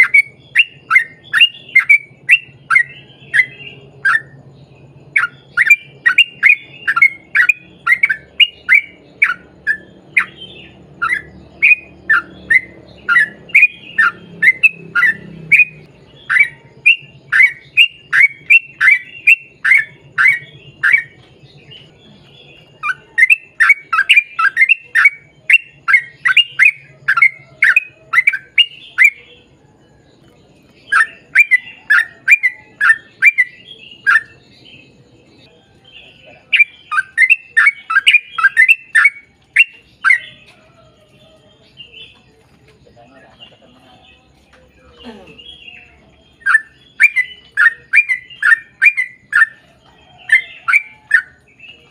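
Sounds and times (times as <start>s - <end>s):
bulbul singing: 0.0s - 51.9s.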